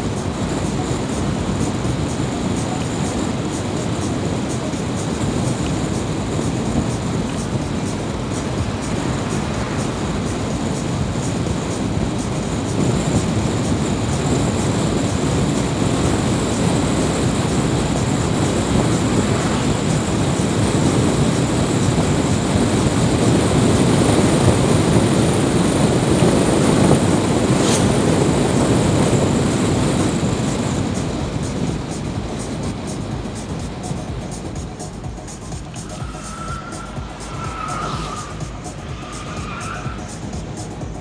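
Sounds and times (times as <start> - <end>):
vehicle engine and tyre rumble: 0.0 - 41.0.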